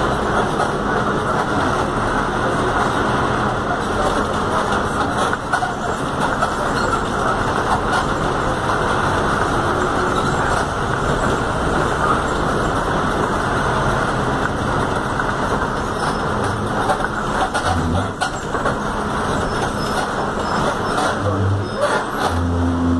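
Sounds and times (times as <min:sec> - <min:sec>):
bus engine and road noise: 0:00.0 - 0:22.9.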